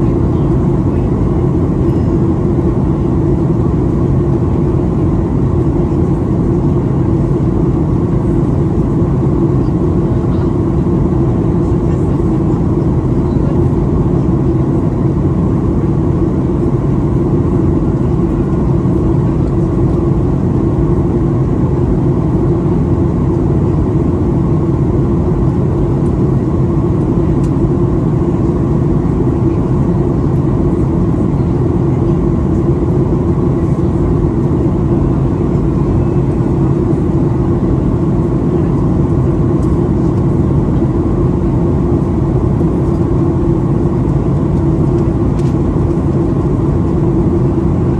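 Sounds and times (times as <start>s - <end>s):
airflow over fuselage: 0.0s - 47.9s
constant low hum: 0.0s - 47.9s
jet engines droning: 0.0s - 47.9s.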